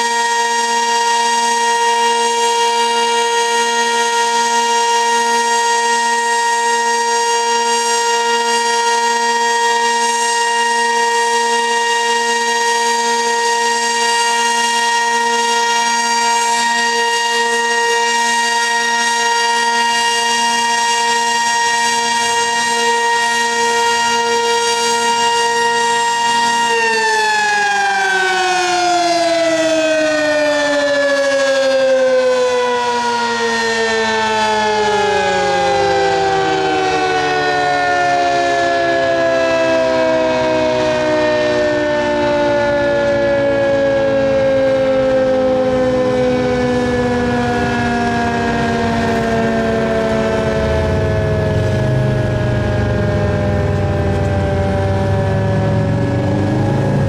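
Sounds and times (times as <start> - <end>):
warning siren winding down: 0.0 - 57.0.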